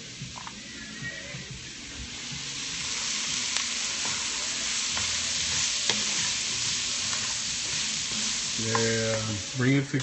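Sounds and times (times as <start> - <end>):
vegetables sizzling in a pot: 0.0 - 10.0.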